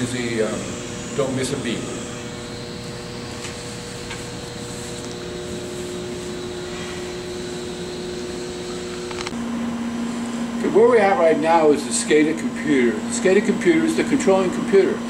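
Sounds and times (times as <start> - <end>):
low steady hum: 0.0 - 15.0
machinery hum and hiss: 0.0 - 15.0.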